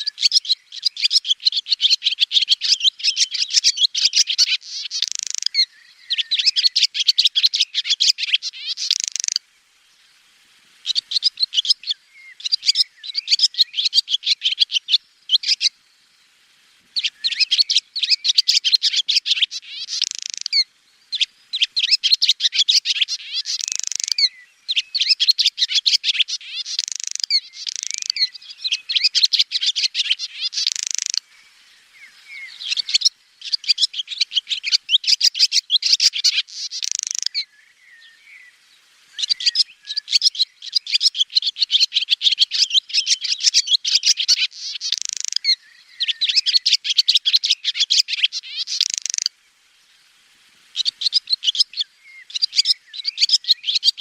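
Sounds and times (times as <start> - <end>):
swallow twittering: 0.0 - 9.4, 10.8 - 15.9, 17.0 - 49.3, 50.7 - 54.0.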